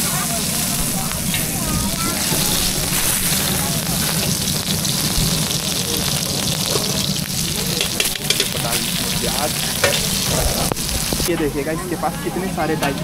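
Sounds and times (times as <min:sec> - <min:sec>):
faint voices: 0:00.0 - 0:13.0
food sizzling on a grill: 0:00.0 - 0:13.0.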